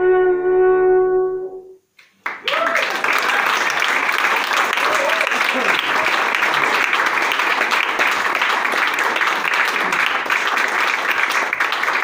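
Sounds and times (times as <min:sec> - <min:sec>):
audience applauding: 0:02.0 - 0:12.0.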